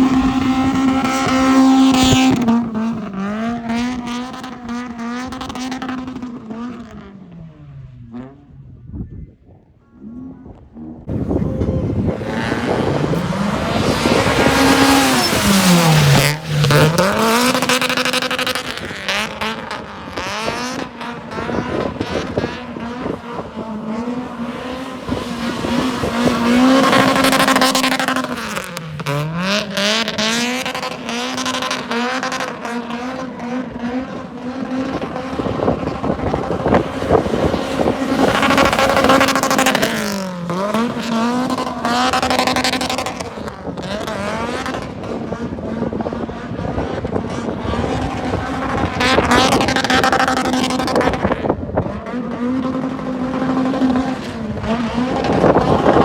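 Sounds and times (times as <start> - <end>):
car engine at high revs: 0.0 - 9.1, 9.9 - 56.0.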